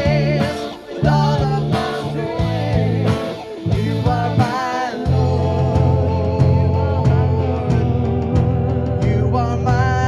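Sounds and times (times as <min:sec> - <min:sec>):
worship band playing: 0:00.0 - 0:10.0.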